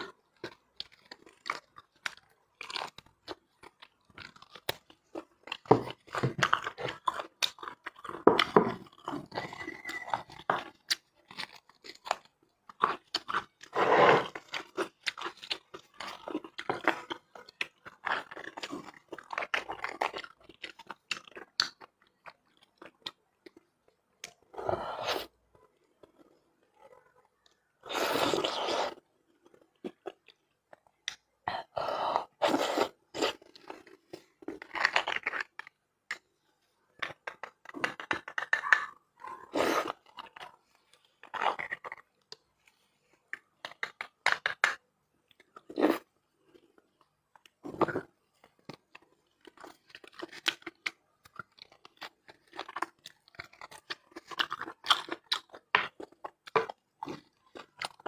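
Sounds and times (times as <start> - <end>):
person biting and chewing food: 0.0 - 36.3, 36.9 - 58.0.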